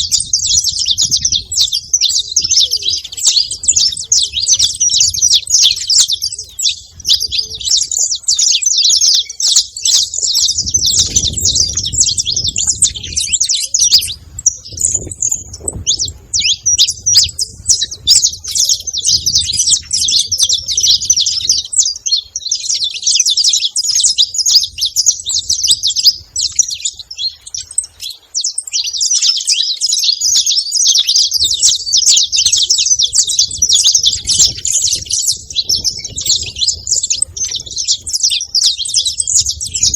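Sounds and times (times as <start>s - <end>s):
finch chirping and singing: 0.0s - 39.9s.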